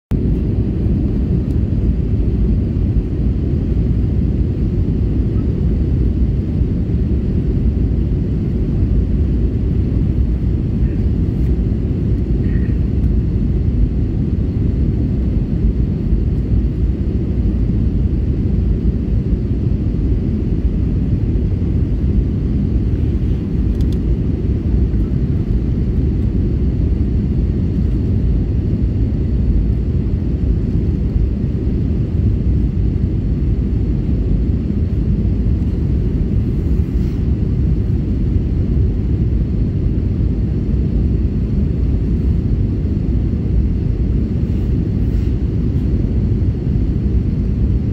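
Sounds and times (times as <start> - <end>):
airplane cabin low rumble: 0.1 - 47.9.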